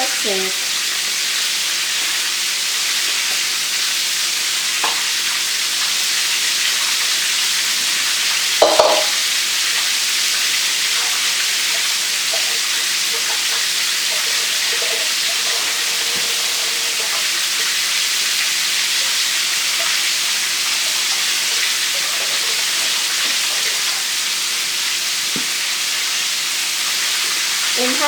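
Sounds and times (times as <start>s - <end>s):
chicken frying in hot oil: 0.0s - 28.0s.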